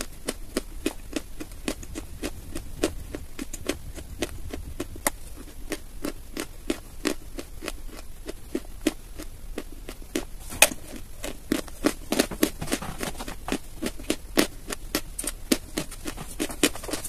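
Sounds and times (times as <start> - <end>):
chewing dry chalk: 0.0 - 17.0.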